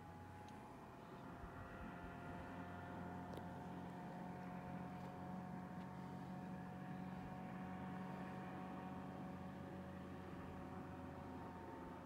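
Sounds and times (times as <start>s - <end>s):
distant motorboat engine drone: 0.0s - 12.0s.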